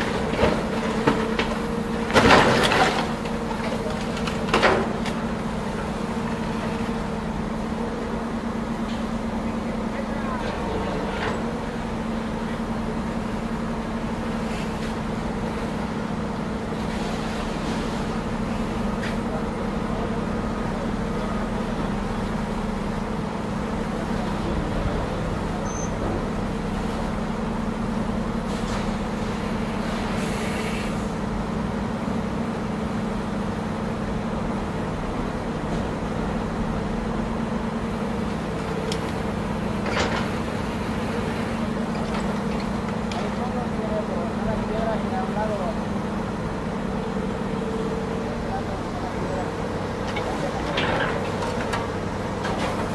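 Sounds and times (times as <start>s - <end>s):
excavator diesel engine drone: 0.0s - 52.9s.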